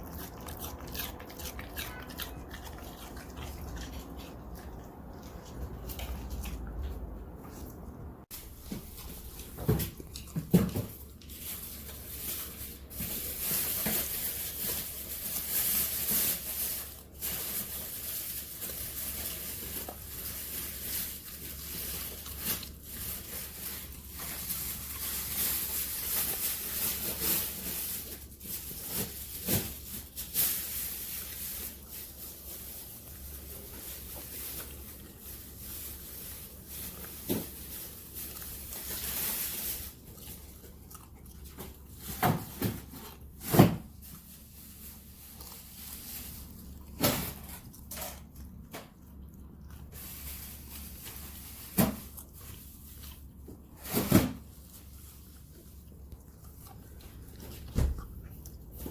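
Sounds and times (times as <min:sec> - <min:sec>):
dog crunching cabbage: 0:00.0 - 0:58.9.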